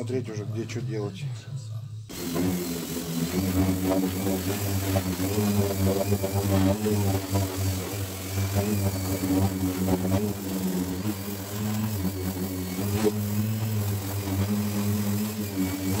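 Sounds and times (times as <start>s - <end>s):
orbital sander humming: 2.1s - 16.0s.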